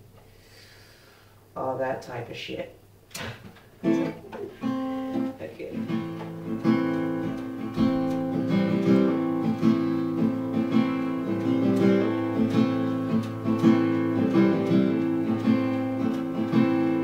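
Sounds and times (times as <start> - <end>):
acoustic guitar chords strummed: 3.2 - 17.0.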